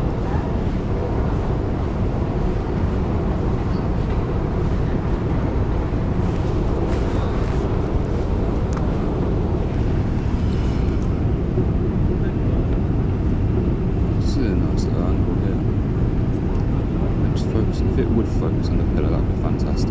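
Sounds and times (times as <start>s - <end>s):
low rumble of city traffic: 0.0s - 19.9s.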